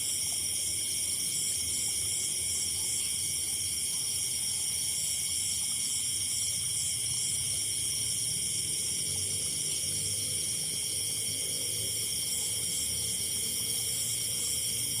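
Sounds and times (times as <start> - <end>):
crickets chirring: 0.0 - 15.0
insects chirring: 0.0 - 15.0.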